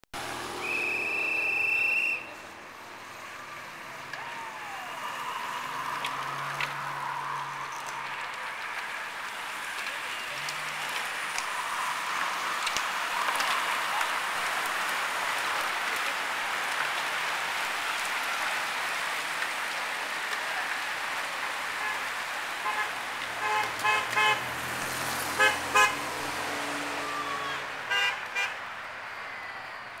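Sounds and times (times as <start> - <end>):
bicycle tyres hissing past: 0.2 - 27.6.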